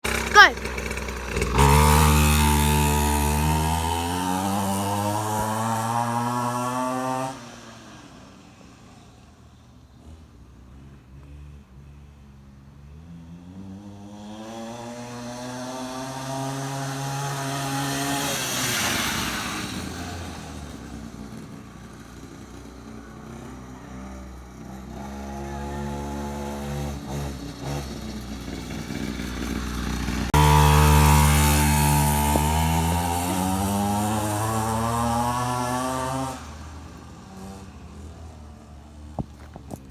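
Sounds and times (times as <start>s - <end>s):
dirt bike engines revving: 0.0s - 7.8s, 13.6s - 39.9s.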